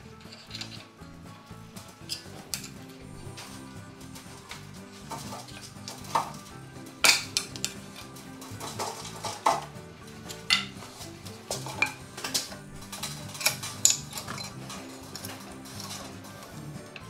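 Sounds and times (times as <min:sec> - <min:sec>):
hand tools knocking on metal: 0:01.9 - 0:17.0.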